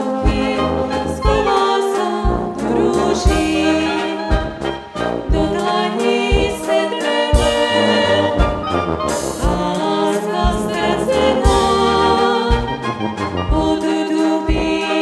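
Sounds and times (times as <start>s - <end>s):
brass band playing: 0.0s - 15.0s
people singing: 0.0s - 15.0s.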